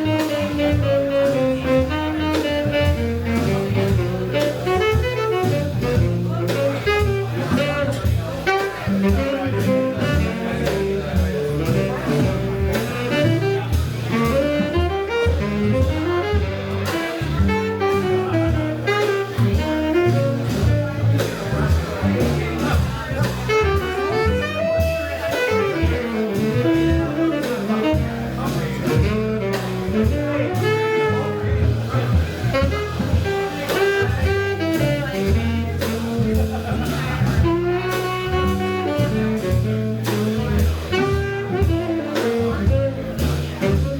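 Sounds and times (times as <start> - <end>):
cymbals and drums: 0.0 - 43.9
jazz band playing: 0.0 - 43.9
walking bass line: 0.0 - 43.9.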